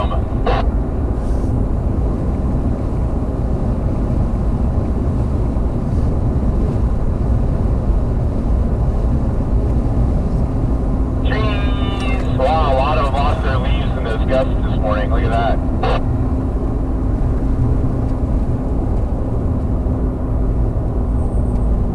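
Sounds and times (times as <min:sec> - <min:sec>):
vehicle engine and road rumble: 0:00.0 - 0:21.9.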